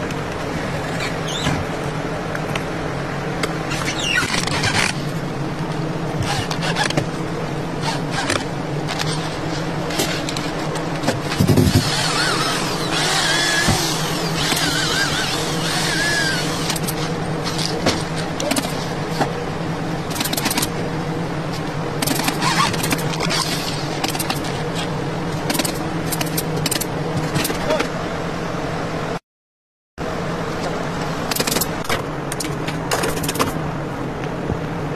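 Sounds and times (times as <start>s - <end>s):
steady mechanical hum: 0.0s - 29.2s, 30.0s - 34.9s.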